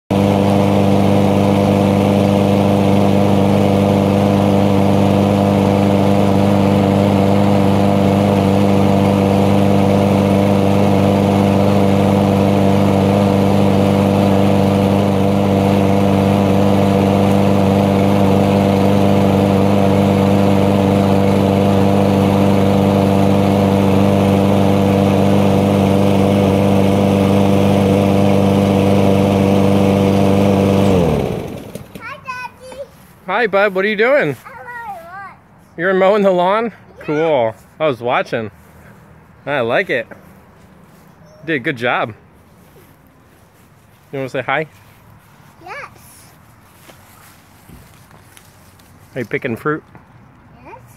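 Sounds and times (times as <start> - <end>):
lawn mower engine running: 0.1 - 50.5.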